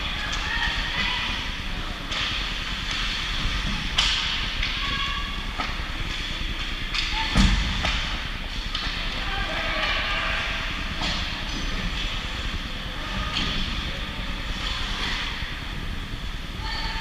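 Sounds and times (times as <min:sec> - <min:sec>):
faint crowd voices: 0:00.0 - 0:17.0.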